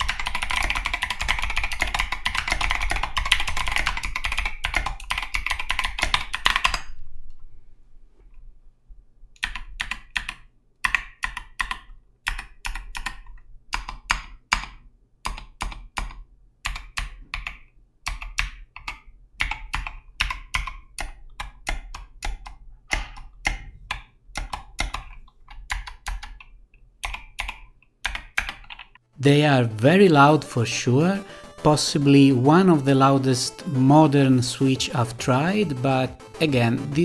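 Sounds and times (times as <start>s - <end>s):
loud clicky keyboard typing: 0.0s - 6.9s, 9.4s - 29.0s, 30.9s - 37.0s.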